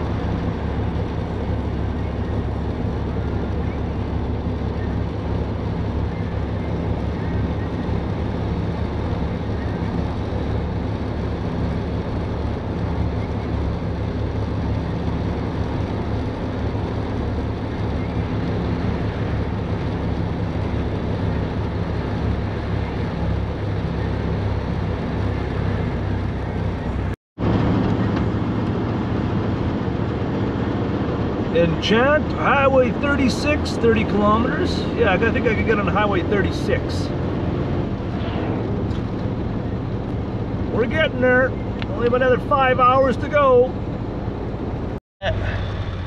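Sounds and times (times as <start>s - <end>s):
low hum: 0.0s - 43.0s
van engine and road noise: 0.0s - 46.0s.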